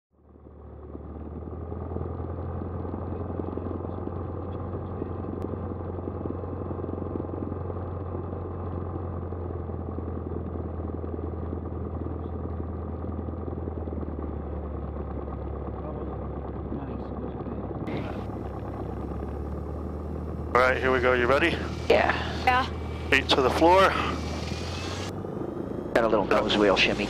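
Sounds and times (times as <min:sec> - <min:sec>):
light aircraft engine drone: 0:00.2 - 0:27.0.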